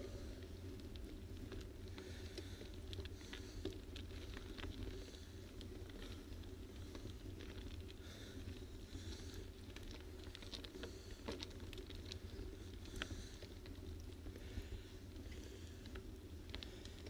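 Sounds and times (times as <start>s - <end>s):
bicycle rolling on rough asphalt: 0.0s - 17.0s
small clicks and rattles: 0.1s - 17.0s.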